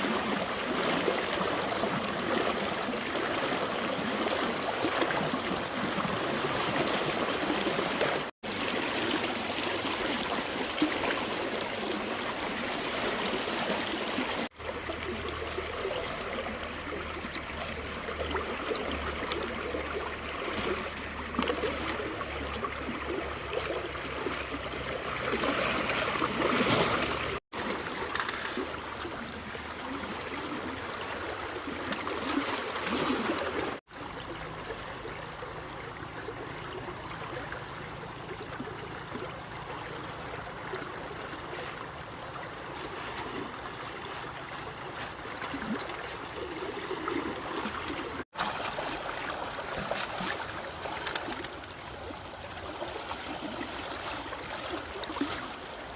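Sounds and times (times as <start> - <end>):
running splashing water: 0.0 - 33.9, 38.6 - 55.9.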